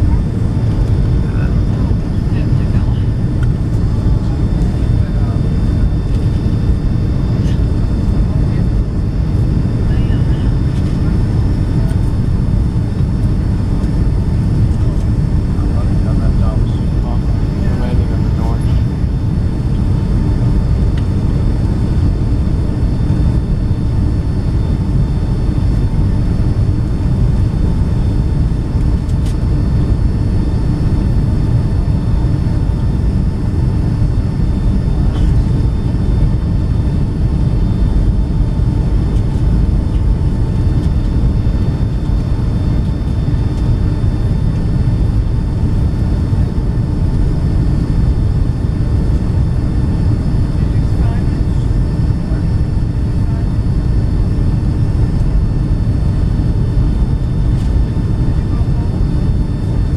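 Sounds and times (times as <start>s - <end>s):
aircraft cabin engine rumble: 0.0s - 59.9s
faint steady engine tones: 0.0s - 59.9s.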